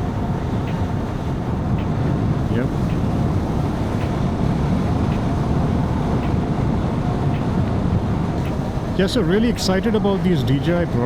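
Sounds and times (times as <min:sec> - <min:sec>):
wind and motorcycle riding noise: 0:00.0 - 0:11.0.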